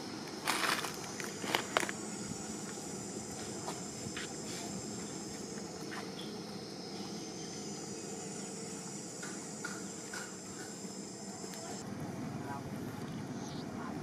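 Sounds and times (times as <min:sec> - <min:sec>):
high-pitched insect chorus: 0:00.0 - 0:11.8
low steady hum: 0:00.0 - 0:14.0.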